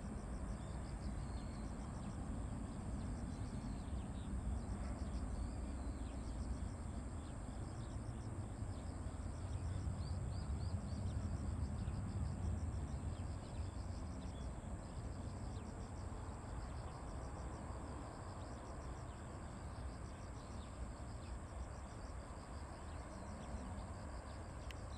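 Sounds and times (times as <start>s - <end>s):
insects chirping: 0.0s - 24.9s.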